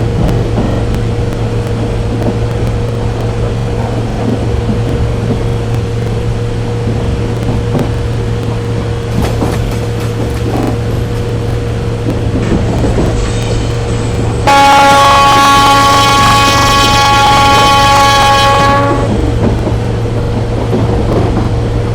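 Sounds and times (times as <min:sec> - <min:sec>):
droning hum: 0:00.0 - 0:21.9
train rumbling: 0:00.0 - 0:21.9.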